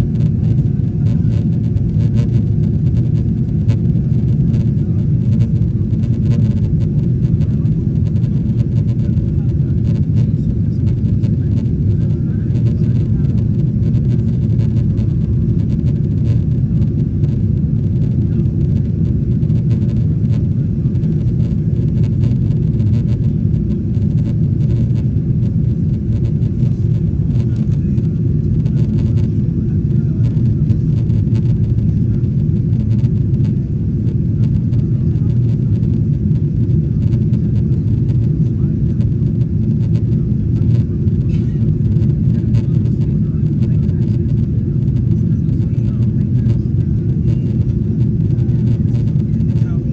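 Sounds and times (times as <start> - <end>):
airplane cabin engine roar: 0.0 - 49.9.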